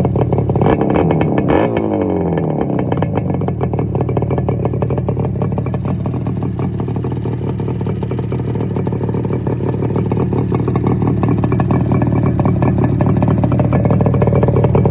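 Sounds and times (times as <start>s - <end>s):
two-stroke motorcycle exhaust: 0.0s - 14.9s.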